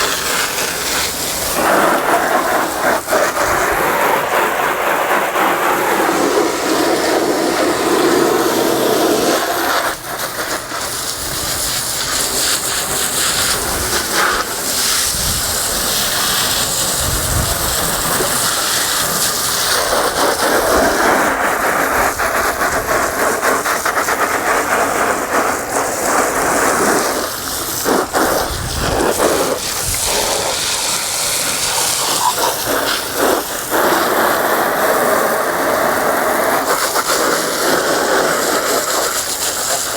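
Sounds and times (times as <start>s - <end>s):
hose water spraying: 0.0s - 39.9s.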